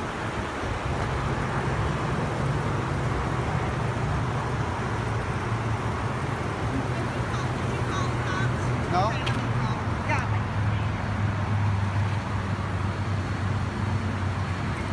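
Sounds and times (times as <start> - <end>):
traffic hiss: 0.0 - 14.9
vehicle engine humming: 0.0 - 14.9.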